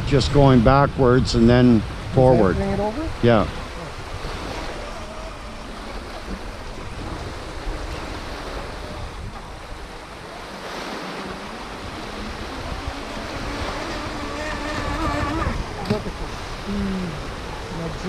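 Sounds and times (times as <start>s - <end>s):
small waves washing ashore: 0.0s - 18.0s
wind noise on microphone: 0.0s - 18.0s.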